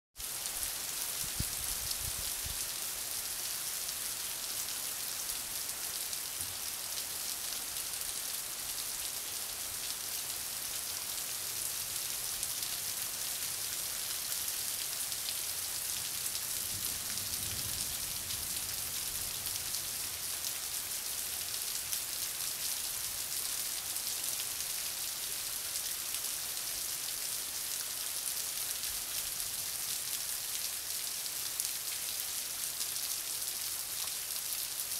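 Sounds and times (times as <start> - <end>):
heavy rain on street and cars: 0.2 - 34.9.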